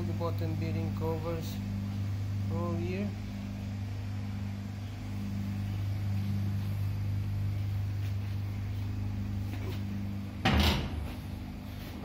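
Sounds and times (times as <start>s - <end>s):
engine-room machinery humming: 0.0s - 12.0s.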